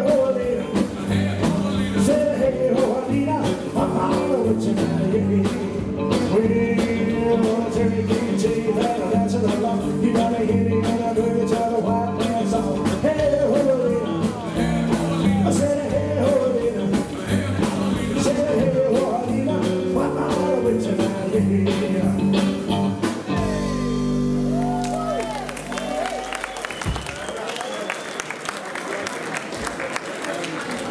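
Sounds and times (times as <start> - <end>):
rockabilly band playing: 0.0 - 27.2.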